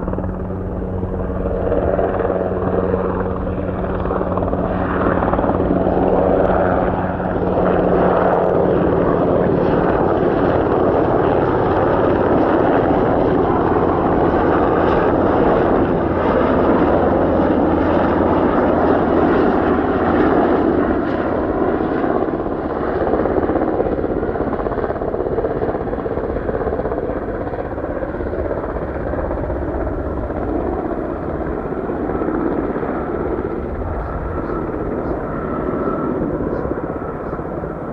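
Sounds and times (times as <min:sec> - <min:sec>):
aircraft engines running: 0:00.0 - 0:37.9.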